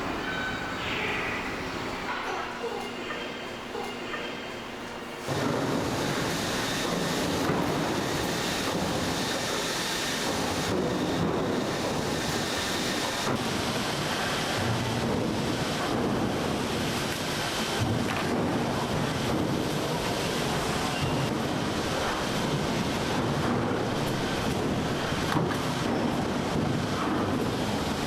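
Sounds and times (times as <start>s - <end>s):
factory machinery noise: 0.0s - 28.0s.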